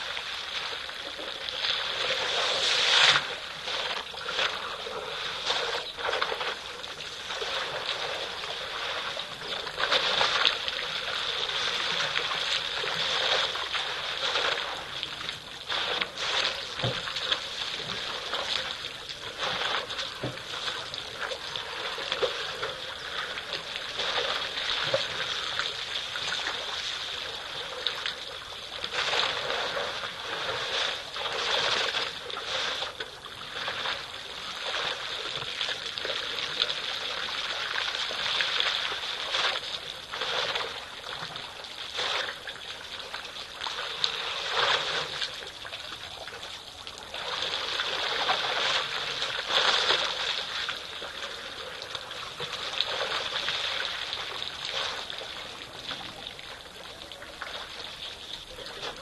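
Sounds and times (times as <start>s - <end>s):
water splashing from elephant trunks: 0.0s - 59.0s.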